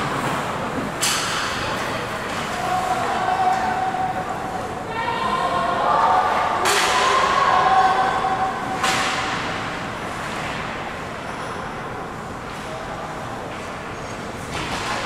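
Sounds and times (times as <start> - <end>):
background murmur: 0.0 - 15.0.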